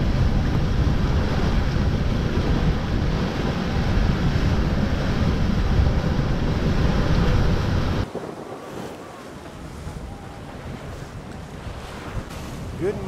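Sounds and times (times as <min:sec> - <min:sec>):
rough seas rushing along hull: 0:00.0 - 0:13.0
wind buffeting microphone: 0:00.0 - 0:13.0.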